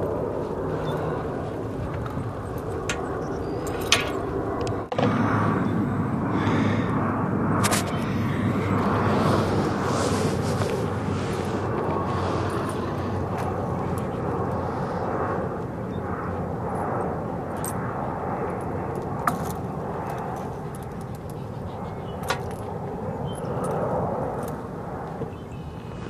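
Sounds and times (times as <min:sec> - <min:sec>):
outdoor rumble: 0:00.0 - 0:26.0.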